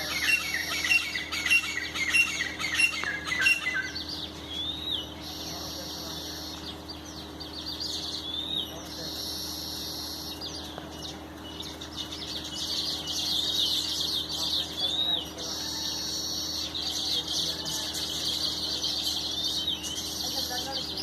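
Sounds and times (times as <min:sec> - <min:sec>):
birds chirping and whistling: 0:00.0 - 0:21.0.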